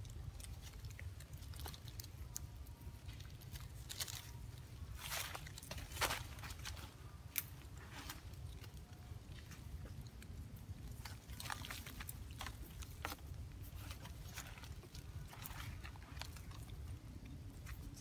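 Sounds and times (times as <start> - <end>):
soft clicks snaps and rustles: 0.0 - 18.0
steady low rumble: 0.0 - 18.0.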